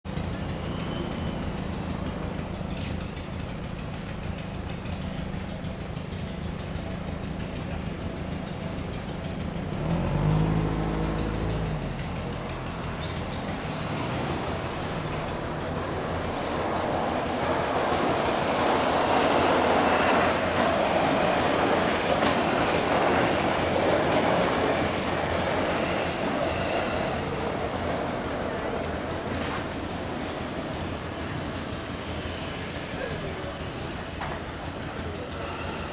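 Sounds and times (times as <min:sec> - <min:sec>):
road vehicle engine rumbling: 0:00.0 - 0:35.9
electric train passing: 0:00.1 - 0:35.9.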